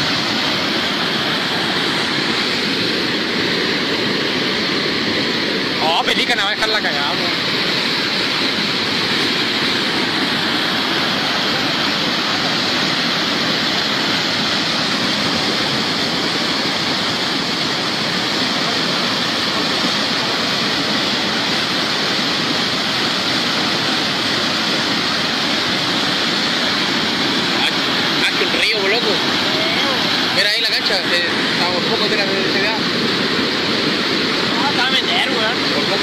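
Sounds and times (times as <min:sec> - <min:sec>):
flood water rushing: 0:00.0 - 0:36.0.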